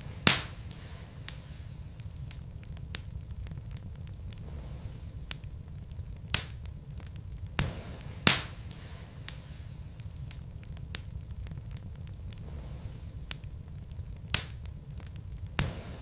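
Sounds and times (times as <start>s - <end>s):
fire rumbling: 0.0s - 16.0s
wood crackles and pops: 0.0s - 16.0s.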